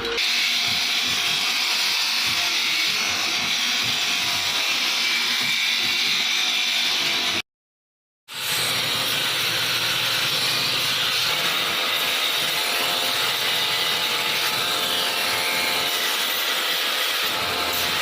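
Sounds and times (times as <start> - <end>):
power grinder grinding knife blade: 0.0 - 7.4, 8.3 - 18.0.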